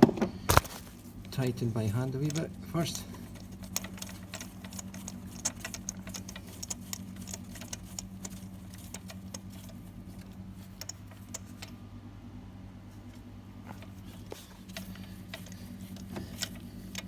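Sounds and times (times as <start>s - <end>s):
ratchet clicking: 1.2s - 11.8s, 13.8s - 17.0s.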